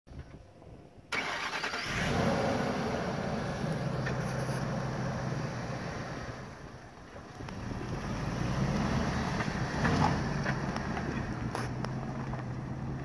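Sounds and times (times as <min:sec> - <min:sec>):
pickup engine starting and idling: 0:01.1 - 0:13.0.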